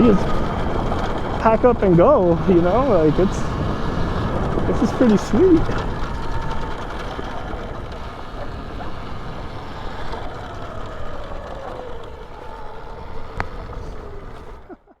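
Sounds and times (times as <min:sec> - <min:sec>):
electric motor whine: 0:00.0 - 0:15.0
heavy wind: 0:00.0 - 0:15.0
tyre rumble: 0:00.0 - 0:15.0.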